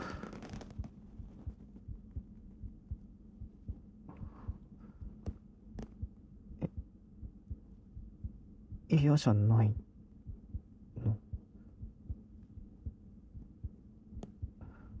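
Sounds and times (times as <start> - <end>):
soft low thumps: 0.0 - 15.0
steady low hum: 0.0 - 15.0.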